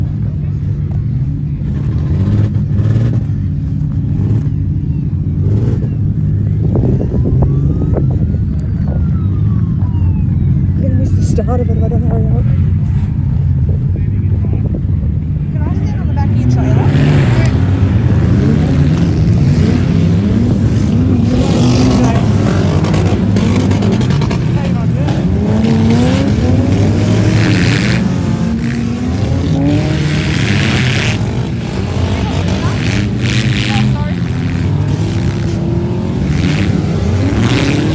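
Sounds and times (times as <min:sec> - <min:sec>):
heavy engines revving: 0:00.0 - 0:37.9.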